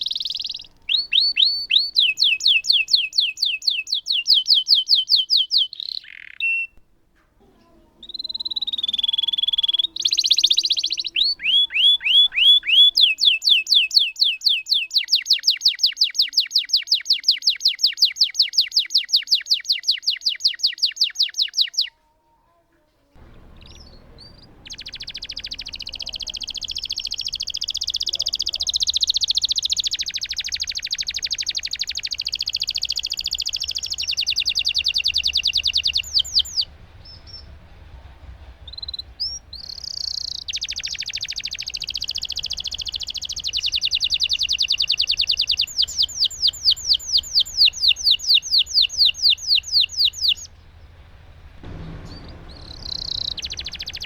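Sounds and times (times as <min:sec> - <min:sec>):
bird chirps: 0:00.0 - 0:06.8, 0:07.6 - 0:22.0, 0:23.2 - 0:37.5, 0:38.7 - 0:51.0, 0:51.6 - 0:54.0
canary singing rolling trills: 0:00.0 - 0:22.0, 0:23.2 - 0:54.0.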